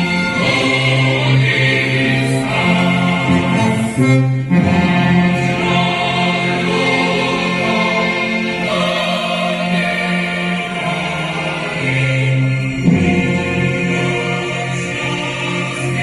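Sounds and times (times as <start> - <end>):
choir singing sustained notes: 0.0 - 16.0.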